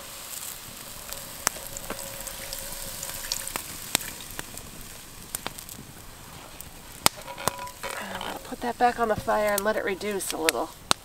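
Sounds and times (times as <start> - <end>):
liquid sizzling in hot skillet: 0.0 - 11.0
sharp pops and clicks: 1.0 - 11.0.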